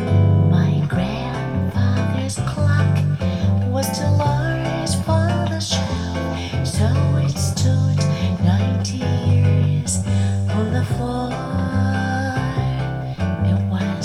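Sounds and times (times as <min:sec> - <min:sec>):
guitar: 0:00.0 - 0:14.0
strong bass line: 0:00.0 - 0:14.0.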